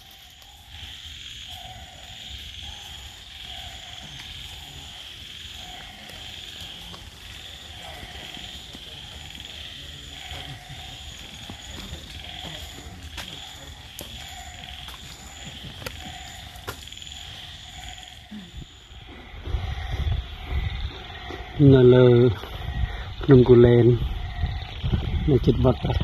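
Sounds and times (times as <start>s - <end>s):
frogs croaking: 0.0s - 26.0s.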